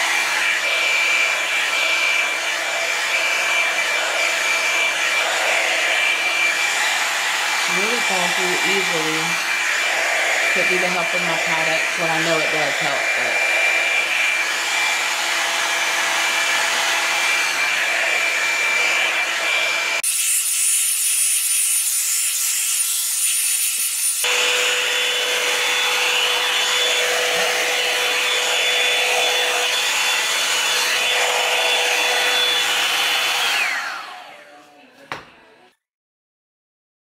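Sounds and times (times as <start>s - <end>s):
hot-air dryer brush running: 0.0s - 34.9s.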